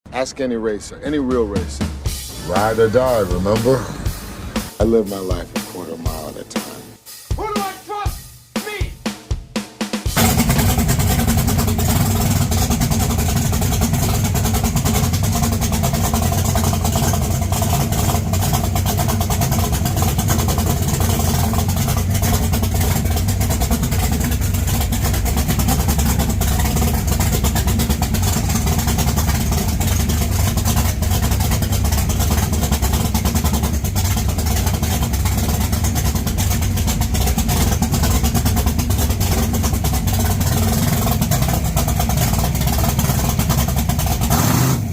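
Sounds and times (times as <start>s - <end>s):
car engine running loud: 0.0s - 5.1s, 10.2s - 44.9s.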